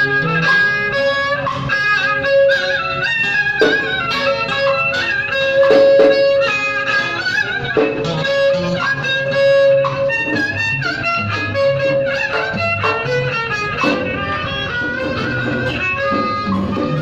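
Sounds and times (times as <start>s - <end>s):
plucked and bowed strings: 0.0s - 17.0s.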